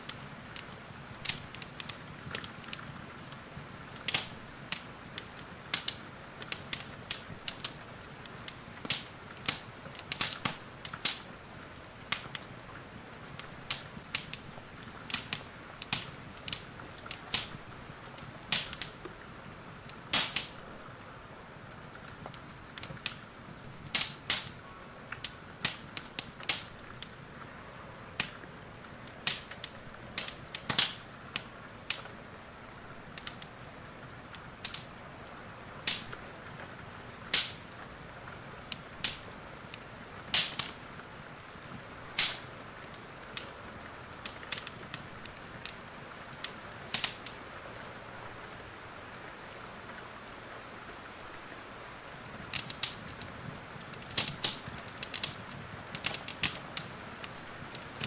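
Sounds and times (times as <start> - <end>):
wood fire crackling and popping: 0.0 - 48.5, 51.1 - 58.0
soft hiss of rain: 0.0 - 58.0.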